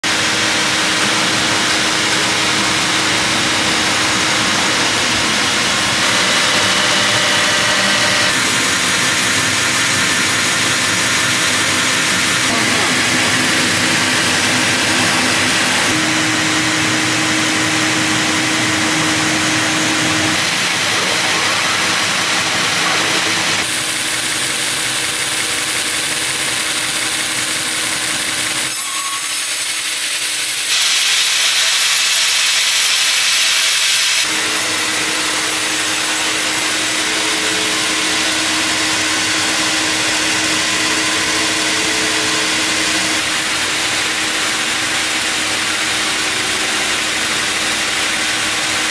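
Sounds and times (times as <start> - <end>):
machine hum: 0.1 - 28.8, 34.2 - 48.9
band saw blade sawing log: 0.1 - 44.2.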